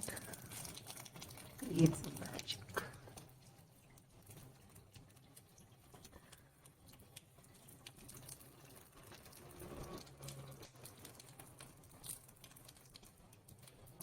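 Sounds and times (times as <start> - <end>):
raindrops dripping: 0.0 - 14.0.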